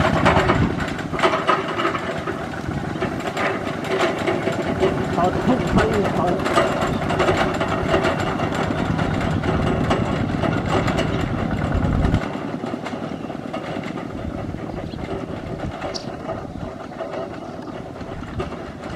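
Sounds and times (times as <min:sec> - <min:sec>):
diesel tractor engines chugging: 0:00.0 - 0:18.9.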